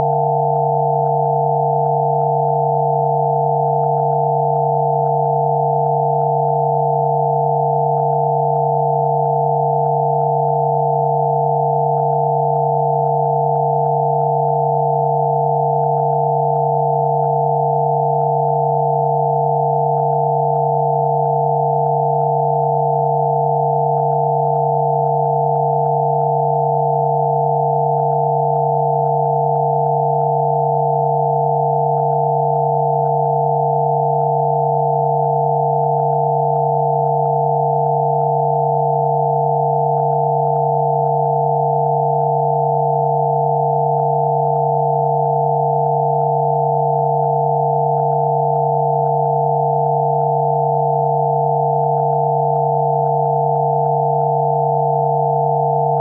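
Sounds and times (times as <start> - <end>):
synthesized sine tones: 0.0 - 56.0.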